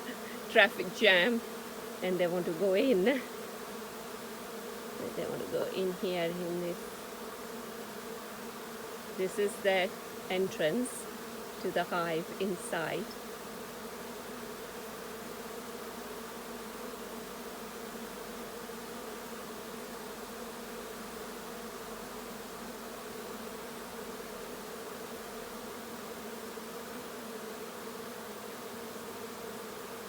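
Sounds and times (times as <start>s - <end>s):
bee swarm humming: 0.0s - 30.0s.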